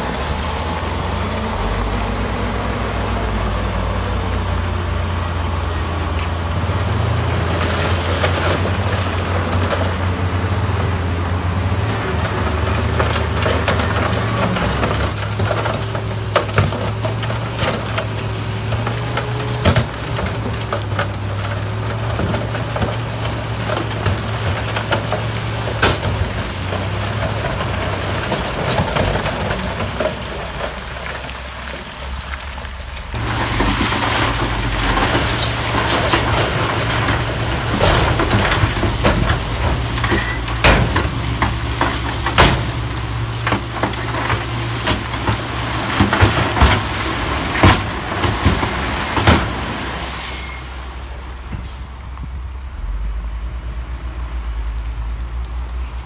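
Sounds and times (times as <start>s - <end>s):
rock crunching and knocking: 0.0s - 49.7s
diesel engine drone: 0.0s - 56.0s.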